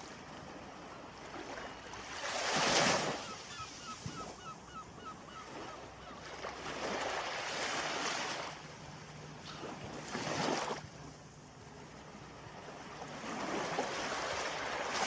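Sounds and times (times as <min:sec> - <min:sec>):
waves breaking and washing in: 0:00.0 - 0:15.0.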